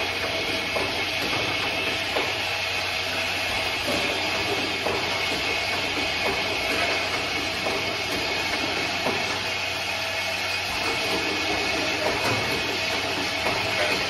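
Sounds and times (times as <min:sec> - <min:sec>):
machine clatter and hiss: 0:00.0 - 0:14.0.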